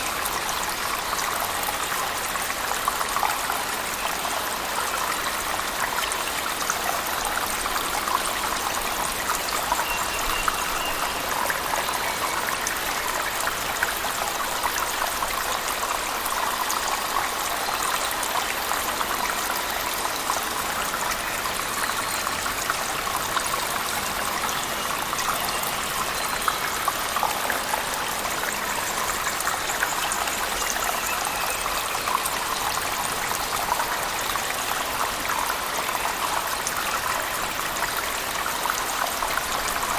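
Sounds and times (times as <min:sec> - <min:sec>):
rushing falling water: 0:00.0 - 0:39.9.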